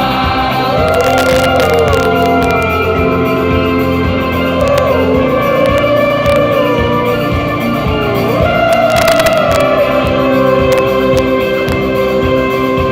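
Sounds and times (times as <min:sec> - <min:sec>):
electric guitar: 0:00.0 - 0:12.9
live rock band music: 0:00.0 - 0:12.9.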